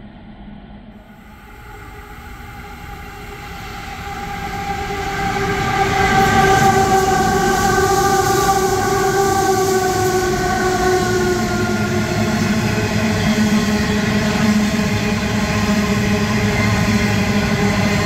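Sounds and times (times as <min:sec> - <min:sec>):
locomotive whine: 0:01.0 - 0:18.0.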